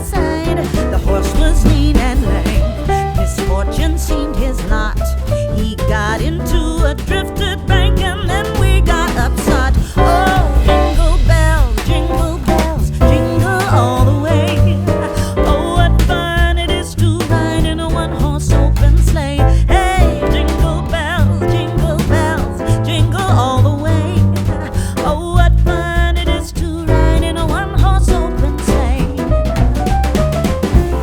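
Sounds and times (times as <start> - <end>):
pop music with sung vocal: 0.0 - 31.0
pulsing bass beat: 0.0 - 31.0.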